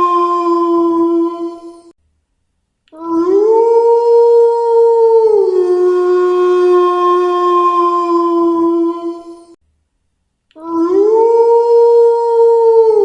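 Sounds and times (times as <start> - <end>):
wolf howling: 0.0 - 1.9, 3.0 - 9.6, 10.6 - 13.0.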